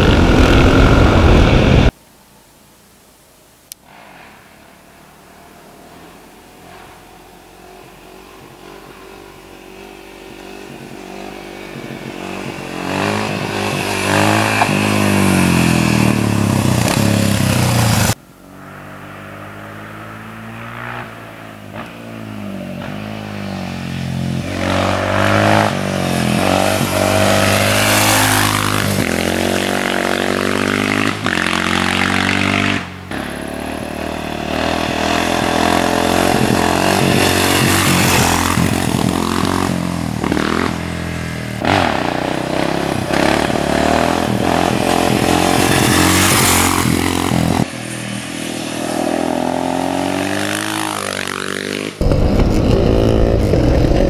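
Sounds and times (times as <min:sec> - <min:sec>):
motorcycle engine passing by: 0:05.2 - 0:54.0.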